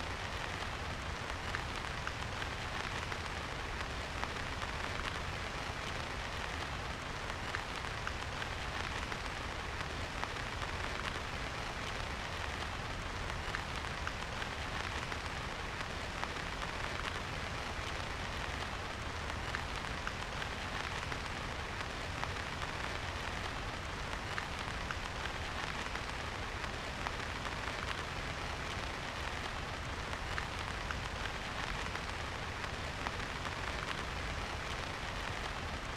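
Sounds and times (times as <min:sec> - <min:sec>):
rain pattering: 0:00.0 - 0:35.9.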